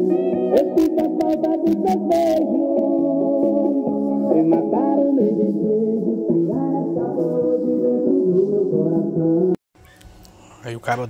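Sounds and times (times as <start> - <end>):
song over loud car speakers: 0.0 - 9.6.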